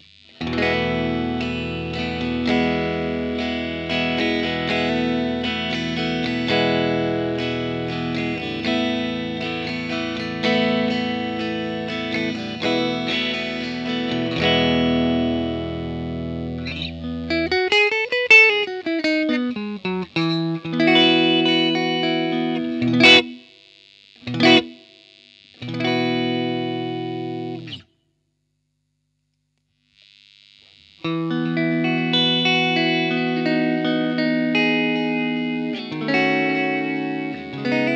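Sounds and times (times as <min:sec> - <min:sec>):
distorted electric guitar chords: 0:00.0 - 0:28.0, 0:29.8 - 0:37.9.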